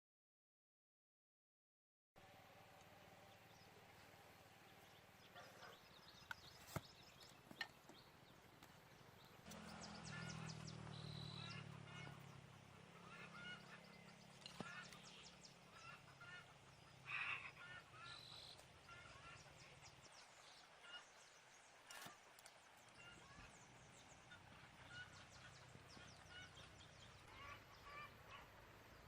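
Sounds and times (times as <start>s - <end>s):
low steady hum: 2.2s - 29.0s
birds calling: 2.3s - 29.0s.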